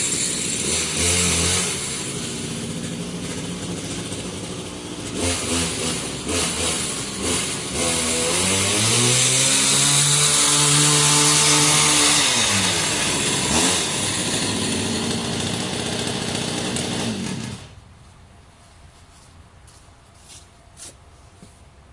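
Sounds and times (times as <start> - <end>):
two-stroke engine revving: 0.0 - 17.8.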